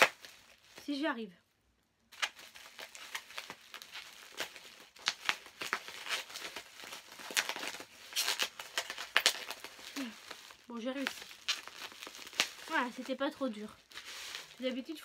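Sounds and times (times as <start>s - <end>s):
plastic wrapping crinkling: 0.0s - 1.1s, 2.1s - 15.0s.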